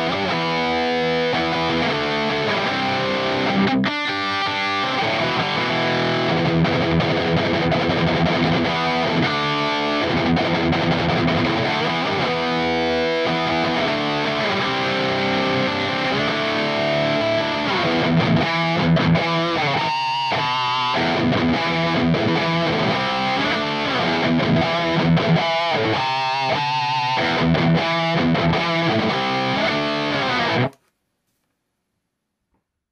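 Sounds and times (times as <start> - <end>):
distorted electric guitar riffing: 0.0 - 30.8.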